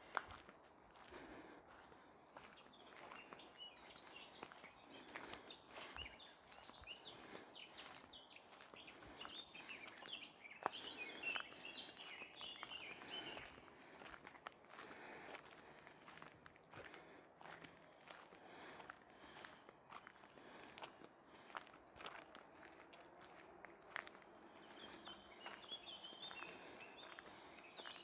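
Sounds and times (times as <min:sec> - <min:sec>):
footsteps on gravel: 0:00.0 - 0:28.0
small birds chirping: 0:00.1 - 0:28.0.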